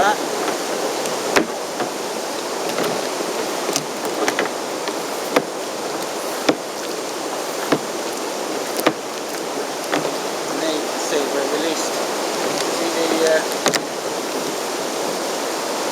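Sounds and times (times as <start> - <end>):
line clicking through pulleys: 0.0 - 14.6
rushing water: 0.0 - 15.9.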